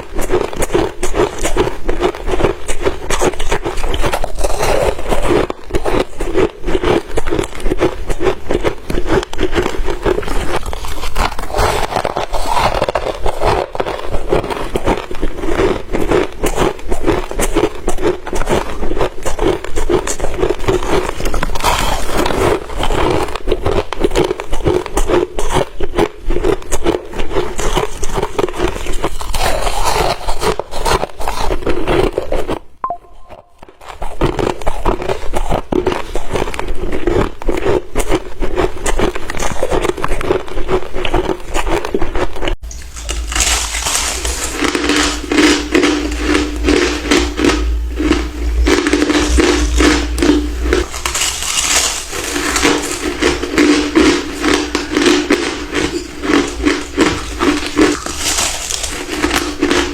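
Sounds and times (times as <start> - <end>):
crushed ice crunching in mouth: 0.0 - 32.6, 34.5 - 59.9.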